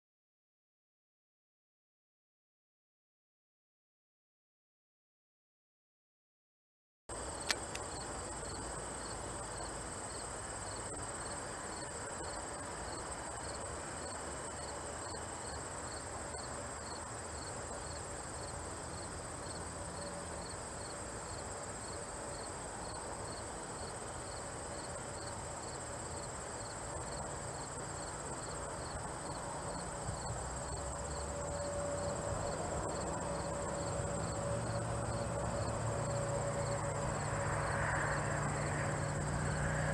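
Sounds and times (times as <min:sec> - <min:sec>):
insect chorus buzzing and chirping: 0:07.1 - 0:39.9.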